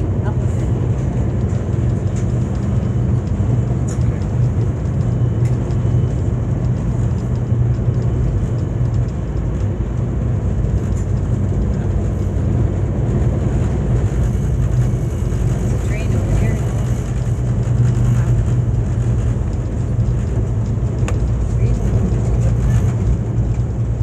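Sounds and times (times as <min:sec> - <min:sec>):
train rumble inside coach: 0:00.0 - 0:24.0.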